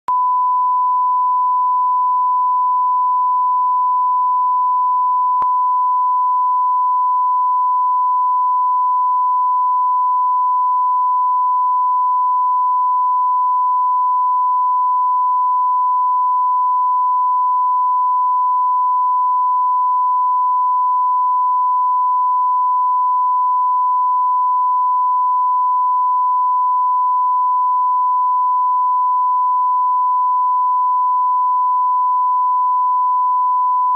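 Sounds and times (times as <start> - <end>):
reference tone beep: 0.0 - 33.9.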